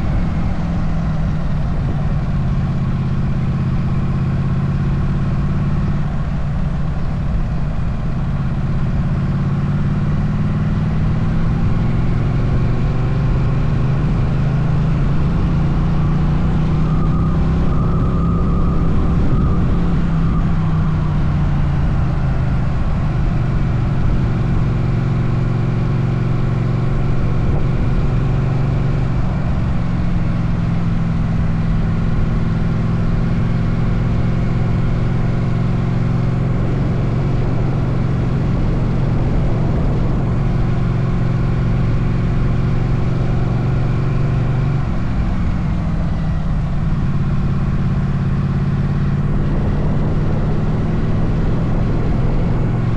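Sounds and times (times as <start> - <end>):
motorcycle engine running: 0.0 - 52.9
wind rumble on microphone: 0.0 - 52.9.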